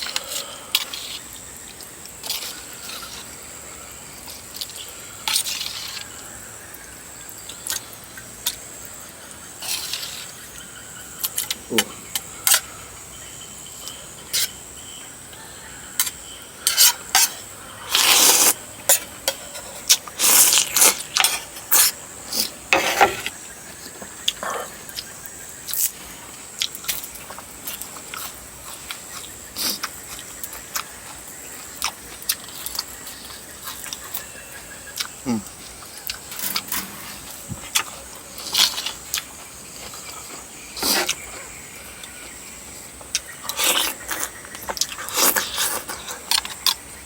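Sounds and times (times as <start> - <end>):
slurping and chewing: 0.0 - 15.0, 16.0 - 42.4, 43.0 - 46.9.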